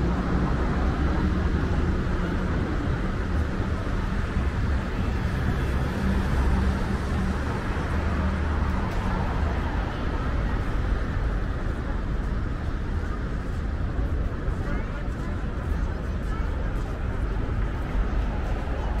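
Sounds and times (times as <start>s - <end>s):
road traffic drone: 0.0s - 19.0s.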